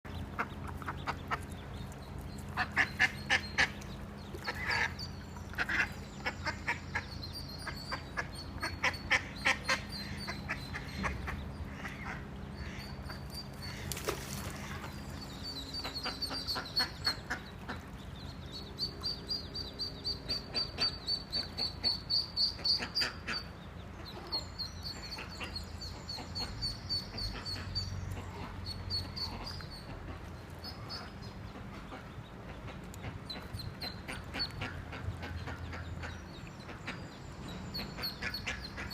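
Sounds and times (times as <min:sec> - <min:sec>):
ducklings peeping: 0:00.1 - 0:38.9.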